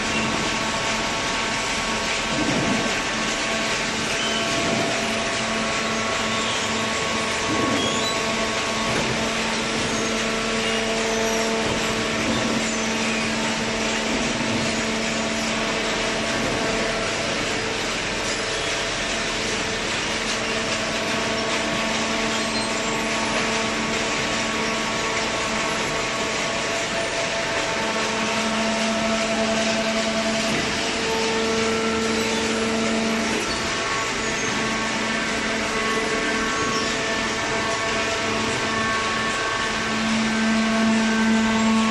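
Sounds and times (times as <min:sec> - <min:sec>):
hydraulic machine hum: 0:00.0 - 0:41.9.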